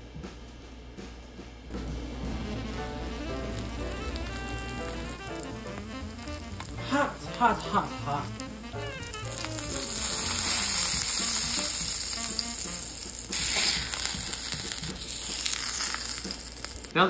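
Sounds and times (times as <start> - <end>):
butter sizzling in a skillet: 1.8 - 17.0.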